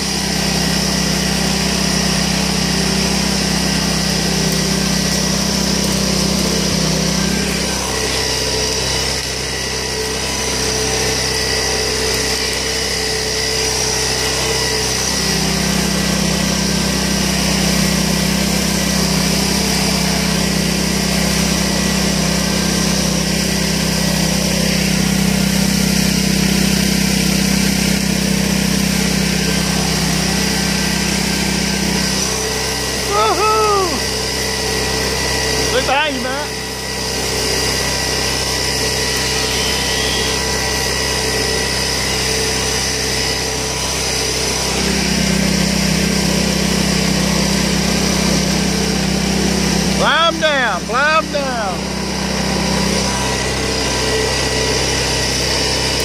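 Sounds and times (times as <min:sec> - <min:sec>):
small petrol engine running: 0:00.0 - 0:56.0.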